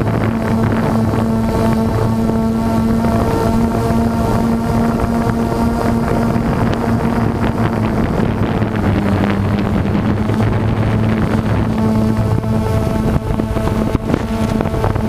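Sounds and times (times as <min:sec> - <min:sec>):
drone propellers humming: 0:00.0 - 0:15.0
wind buffeting microphone: 0:00.0 - 0:15.0.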